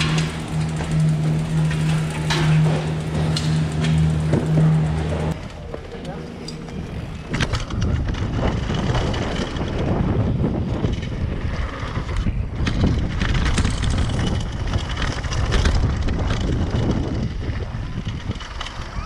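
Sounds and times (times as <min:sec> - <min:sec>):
bike knocks and rattles: 0:00.0 - 0:19.0
wind buffeting microphone: 0:00.0 - 0:19.0.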